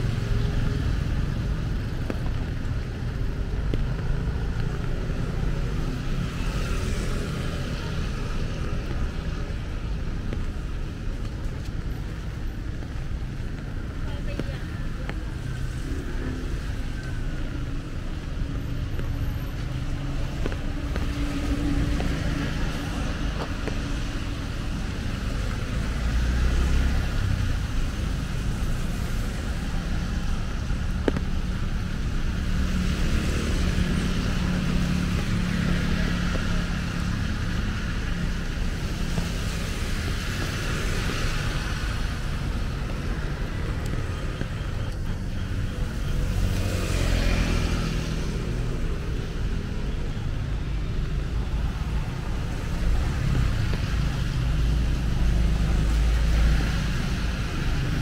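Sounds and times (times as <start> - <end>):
cars passing on wet road: 0.0 - 58.0.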